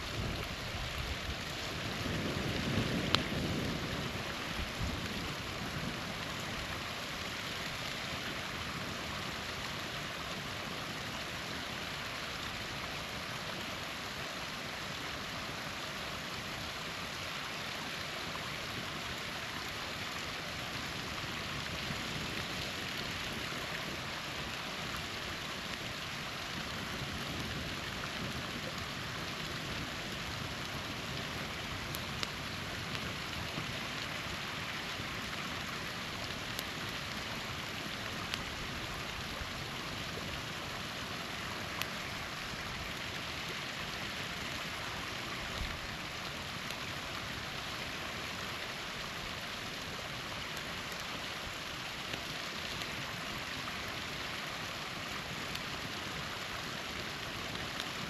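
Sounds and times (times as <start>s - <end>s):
campfire pops and crackles: 0.0s - 58.0s
small waterfall rushing: 0.0s - 58.0s.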